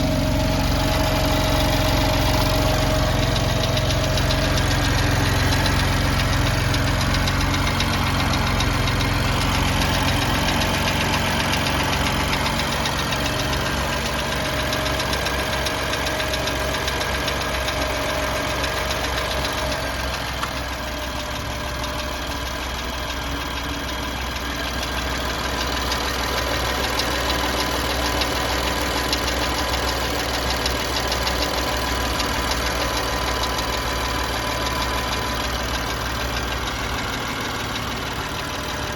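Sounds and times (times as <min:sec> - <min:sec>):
car engine idling: 0:00.0 - 0:38.9
fast steady engine ticking: 0:00.0 - 0:38.9.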